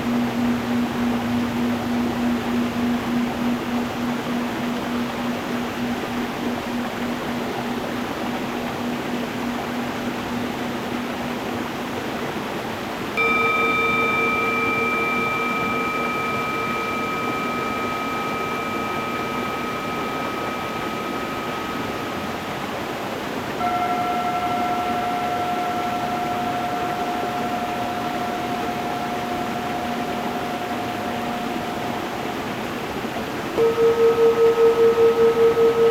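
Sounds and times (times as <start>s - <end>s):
singing bowl ringing: 0.0s - 35.9s.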